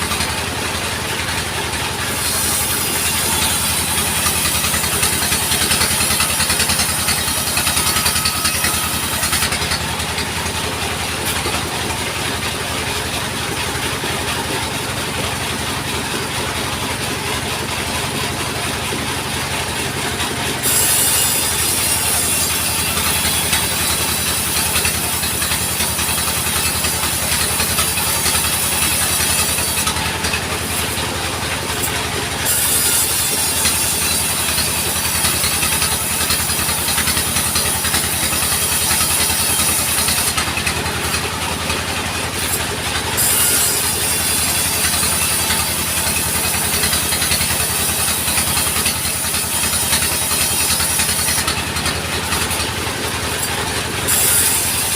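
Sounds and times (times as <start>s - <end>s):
engine chugging low: 0.0s - 54.9s.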